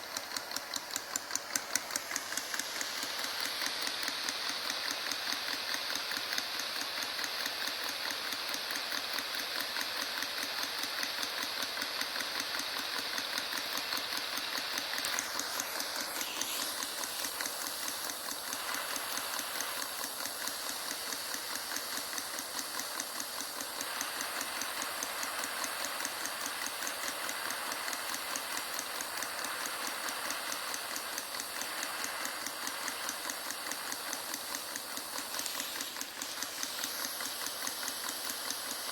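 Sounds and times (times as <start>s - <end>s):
small engine fast ticking: 0.0s - 38.9s.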